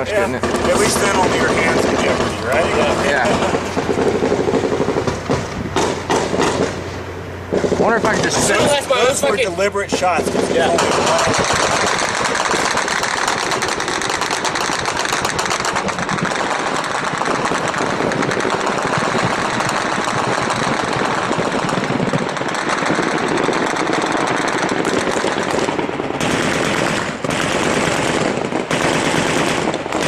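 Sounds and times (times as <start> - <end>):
automatic gunfire: 0.0 - 6.8, 10.2 - 30.0.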